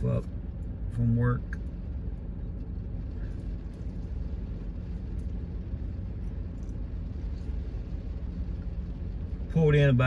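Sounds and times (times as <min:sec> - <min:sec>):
heavy rain on car: 0:00.0 - 0:10.0.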